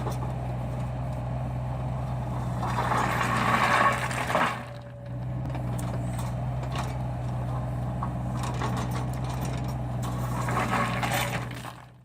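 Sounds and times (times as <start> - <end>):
knocks and scraping: 0.0 - 1.2, 2.3 - 12.0
diesel engine running: 0.0 - 12.0.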